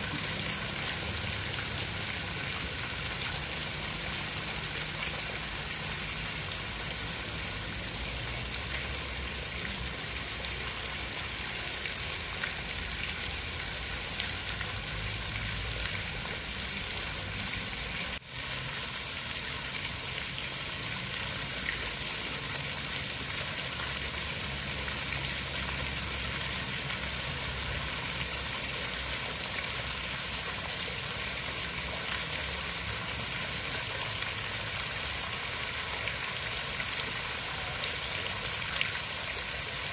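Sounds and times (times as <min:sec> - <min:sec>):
hiss of falling water: 0:00.0 - 0:39.9.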